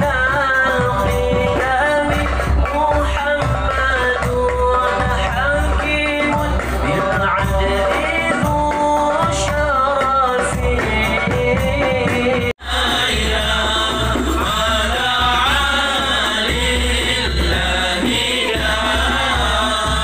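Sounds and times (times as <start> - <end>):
men singing a devotional chant: 0.0 - 20.0.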